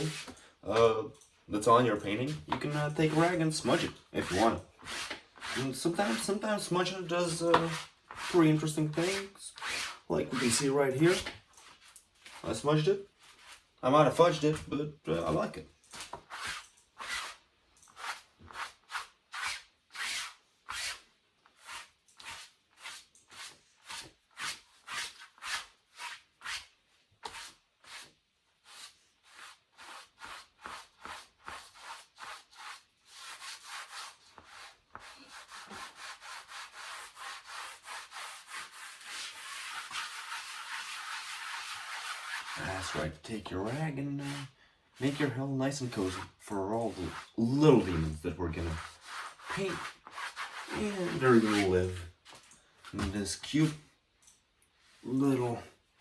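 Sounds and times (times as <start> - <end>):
cloth rag rubbing on canvas: 0.0 - 0.4, 2.1 - 14.5, 16.2 - 21.0, 21.6 - 53.8.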